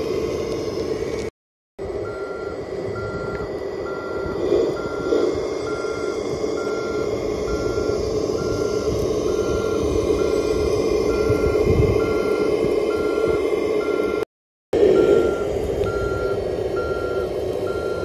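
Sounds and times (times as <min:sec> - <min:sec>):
reversing beeper beeps: 0:02.0 - 0:14.2, 0:14.8 - 0:18.0.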